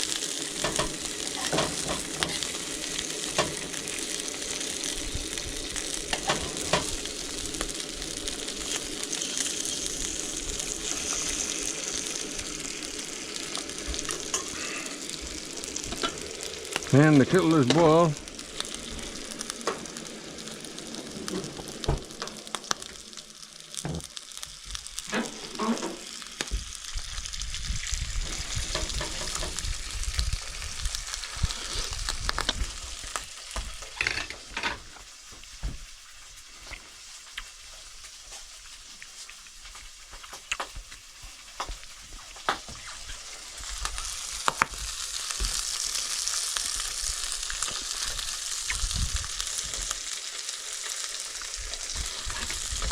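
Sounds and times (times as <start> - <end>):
fish sizzling in a pan: 0.0 - 52.9.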